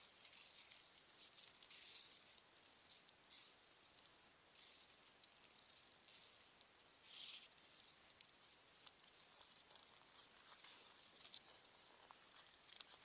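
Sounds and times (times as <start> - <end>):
faint high hiss: 0.0 - 13.0.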